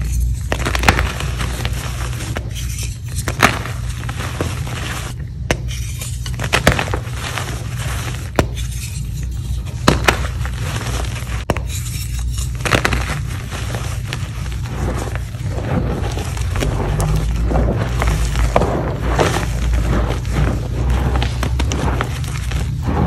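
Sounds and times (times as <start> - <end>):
chalk crunching and crumbling: 0.0 - 23.0
steady low hum: 0.0 - 23.0.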